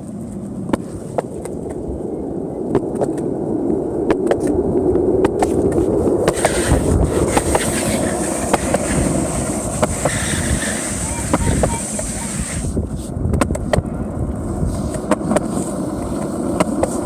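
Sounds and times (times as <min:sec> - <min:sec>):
skateboard wheels rolling on pavement: 0:00.0 - 0:17.0.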